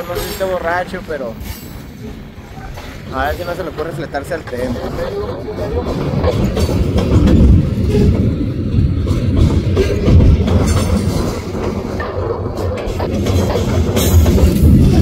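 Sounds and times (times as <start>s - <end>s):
freight train rumbling past: 0.0s - 15.0s
wheels clacking over rail joints: 0.0s - 15.0s.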